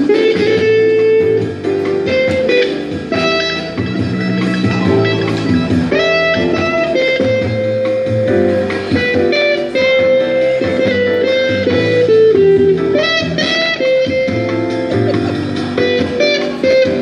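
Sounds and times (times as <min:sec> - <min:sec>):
guitar melody: 0:00.0 - 0:17.0.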